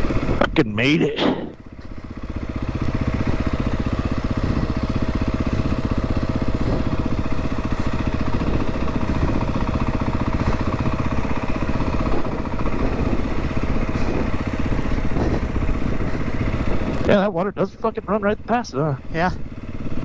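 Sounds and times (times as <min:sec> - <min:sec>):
dirt bike engine idling: 0:00.0 - 0:20.0.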